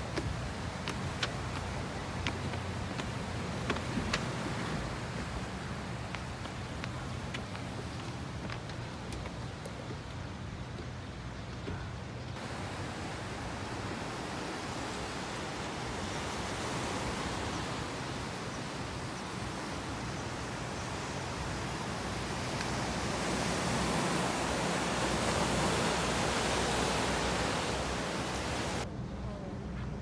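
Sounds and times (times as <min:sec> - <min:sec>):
sea surf on rocky shore: 0:00.0 - 0:09.2, 0:12.4 - 0:28.9.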